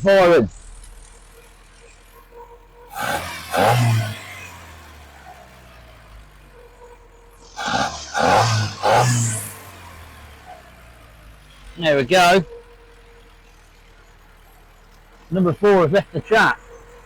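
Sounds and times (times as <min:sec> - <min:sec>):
car engine idling unevenly: 0:00.0 - 0:17.0.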